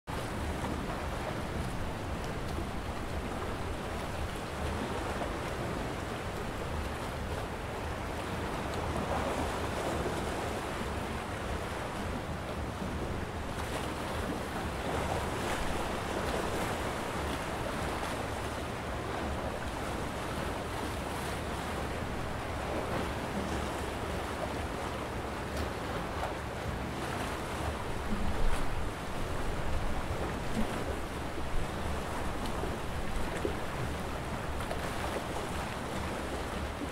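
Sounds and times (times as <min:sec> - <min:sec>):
water splashes: 0:00.1 - 0:36.9.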